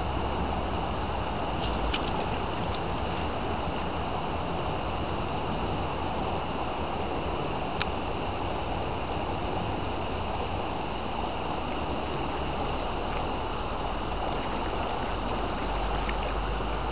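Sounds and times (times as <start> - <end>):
floodwater rushing: 0.1 - 16.9.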